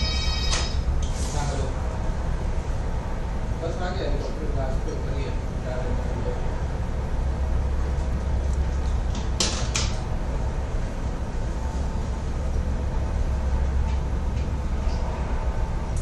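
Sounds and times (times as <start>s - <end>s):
helicopter rumbling: 0.0s - 16.0s.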